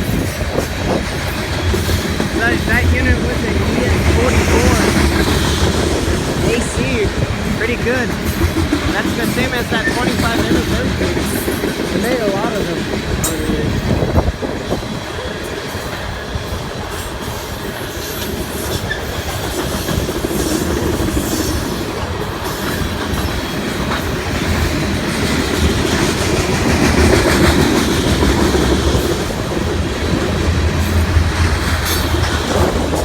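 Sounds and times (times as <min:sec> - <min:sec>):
train wheels clacking over rail joints: 0:00.0 - 0:33.0.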